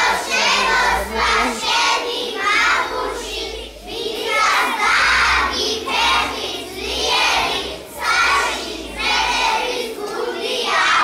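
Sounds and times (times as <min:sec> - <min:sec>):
children singing in chorus: 0:00.0 - 0:11.0.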